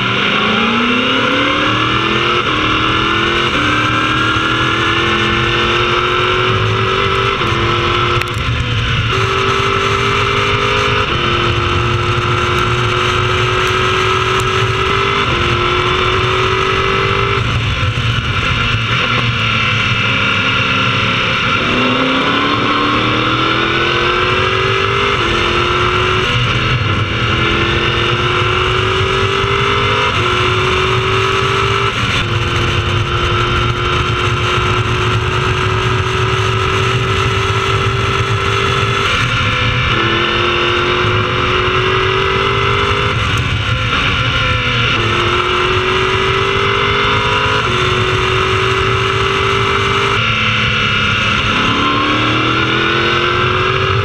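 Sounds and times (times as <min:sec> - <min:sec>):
race car engine shifting gears: 0:00.0 - 0:54.0.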